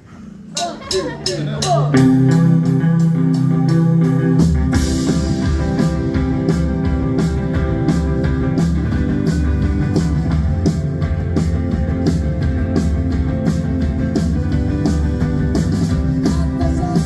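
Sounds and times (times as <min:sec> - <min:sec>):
guitar: 0:00.0 - 0:17.0
steady drum beat: 0:00.6 - 0:17.0
low bass line: 0:01.6 - 0:17.0.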